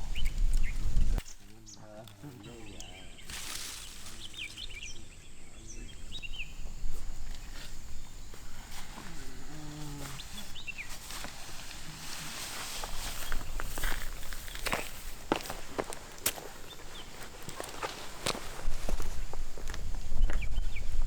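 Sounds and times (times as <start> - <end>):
forest background hiss: 0.0 - 21.0.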